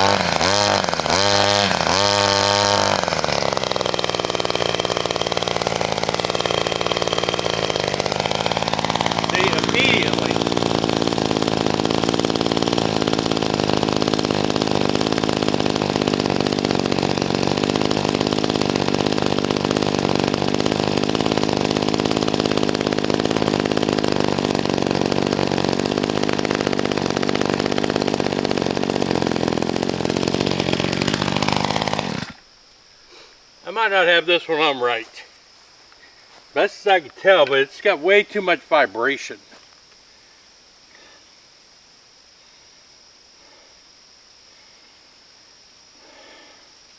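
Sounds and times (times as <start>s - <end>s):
two-stroke trimmer engine running: 0.0s - 32.4s, 33.7s - 39.6s.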